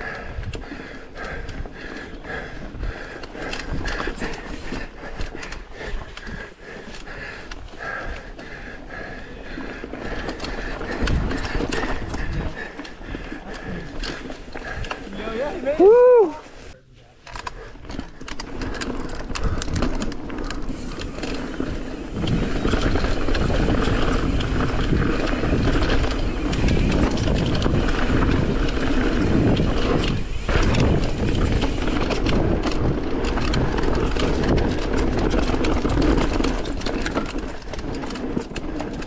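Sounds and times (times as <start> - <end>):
bike rattling over bumps: 0.0 - 39.0
bike tyres rumbling on dirt trail: 0.0 - 39.0.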